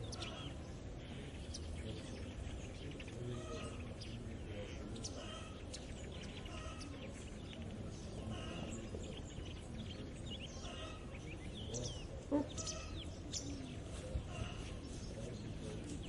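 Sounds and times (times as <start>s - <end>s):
birds chirping and calling: 0.0s - 16.0s.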